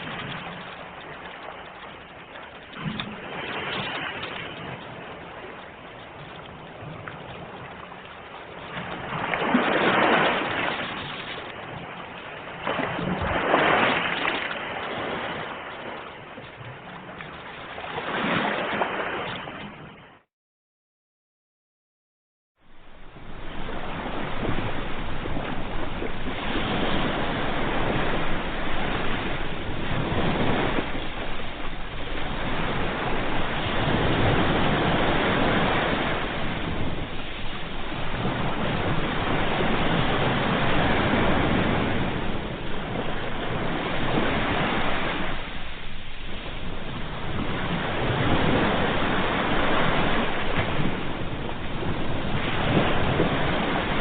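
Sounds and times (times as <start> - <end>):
ocean waves breaking: 0.0 - 20.2, 22.6 - 54.0.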